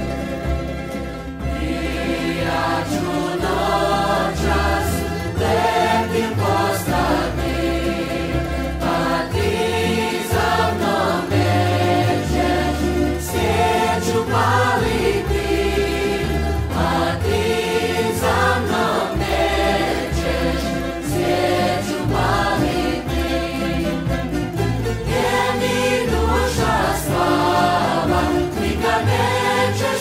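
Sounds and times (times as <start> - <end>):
choir singing folk song: 0.0 - 30.0
instrumental backing with bass: 0.0 - 30.0.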